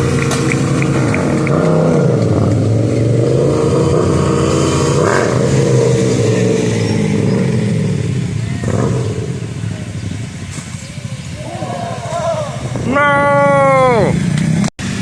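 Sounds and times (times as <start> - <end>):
mini bike engines revving: 0.0 - 15.0.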